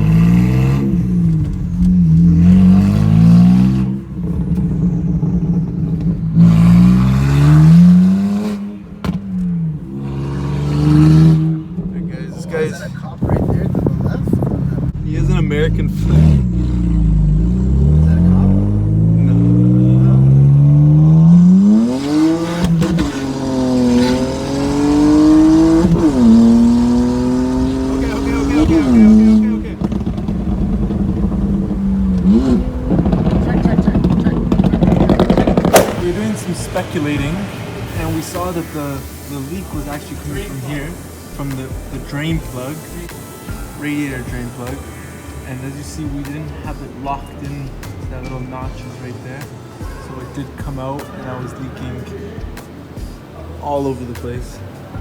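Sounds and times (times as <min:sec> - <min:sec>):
car engine accelerating: 0:00.0 - 0:55.0
exhaust crackle: 0:00.0 - 0:55.0.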